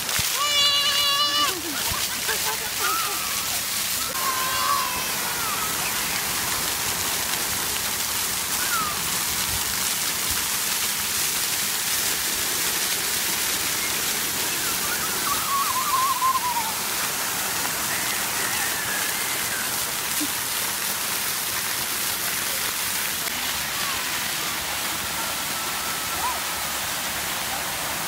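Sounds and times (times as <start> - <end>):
fountain jets spraying on pavement: 0.0 - 28.0.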